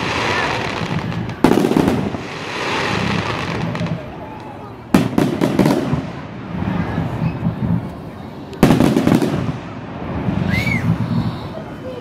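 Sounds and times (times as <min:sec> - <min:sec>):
firework bang: 0:00.0 - 0:04.0, 0:04.9 - 0:07.9, 0:08.6 - 0:11.3
firework crackle: 0:00.0 - 0:12.0.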